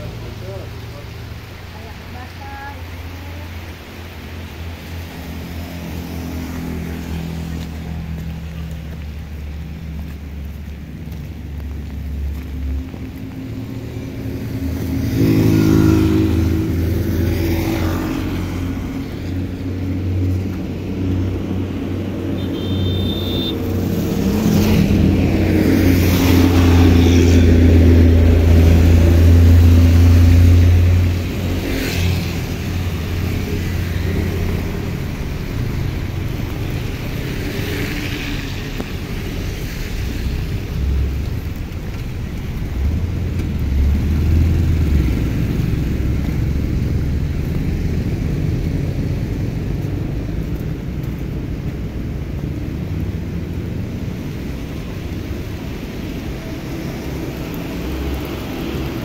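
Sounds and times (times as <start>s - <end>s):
steady rain: 0.0s - 59.0s
tyres hissing on wet road: 0.0s - 59.0s.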